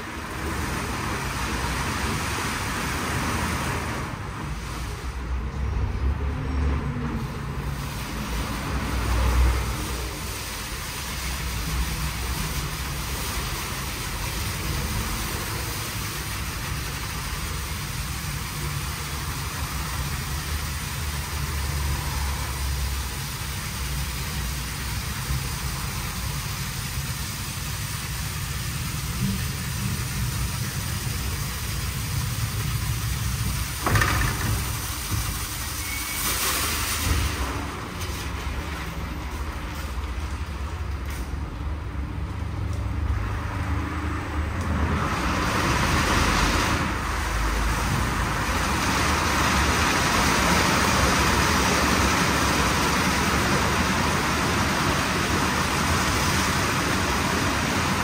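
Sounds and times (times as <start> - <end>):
car wash machinery running: 0.0 - 58.0.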